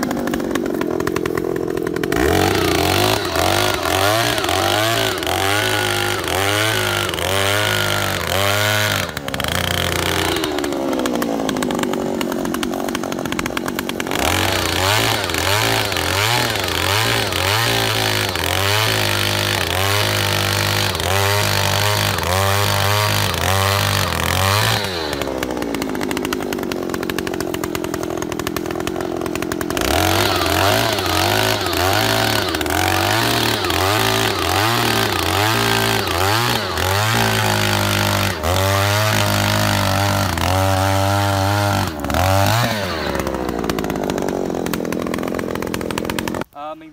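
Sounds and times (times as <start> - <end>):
earth auger engine drilling soil: 0.0 - 46.9.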